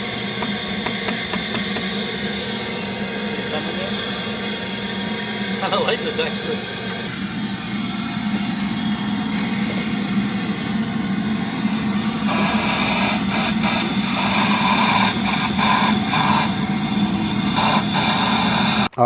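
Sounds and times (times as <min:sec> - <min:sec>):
vacuum airflow hiss: 0:00.0 - 0:19.0
vacuum motor hum: 0:00.0 - 0:19.0.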